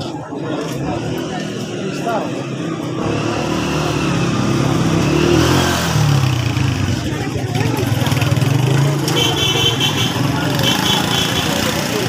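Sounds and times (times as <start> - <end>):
motorcycle engine revving: 0.6 - 12.0.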